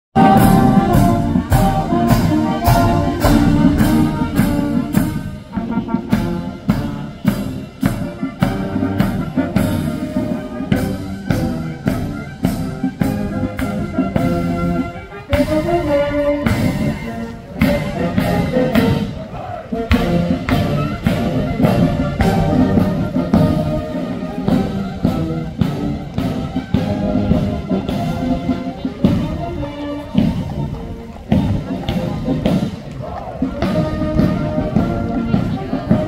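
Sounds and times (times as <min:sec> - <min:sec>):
military band playing march: 0:00.2 - 0:36.0
steady drum beat: 0:00.2 - 0:36.0.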